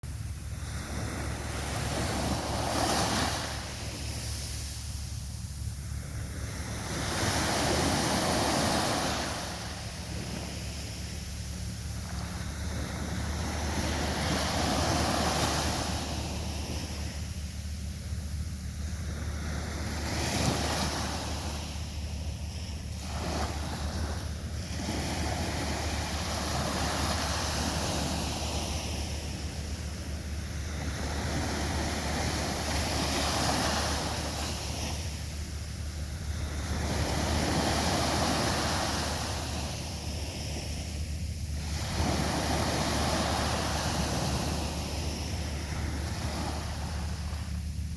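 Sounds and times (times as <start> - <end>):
waves breaking on a beach: 0.0 - 47.9
wind rumble on microphone: 0.0 - 47.9.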